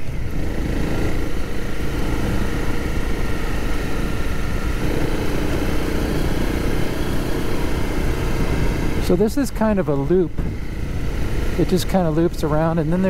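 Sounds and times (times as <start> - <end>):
wind noise: 0.0 - 12.9
motorcycle engine running: 0.0 - 13.0.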